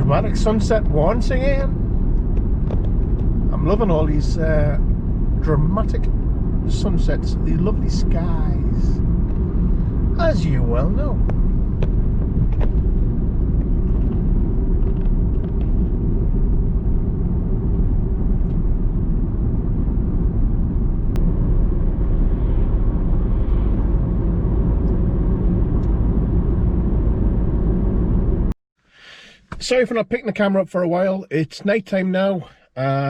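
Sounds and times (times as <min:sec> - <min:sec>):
steady low rumbling: 0:00.0 - 0:28.6.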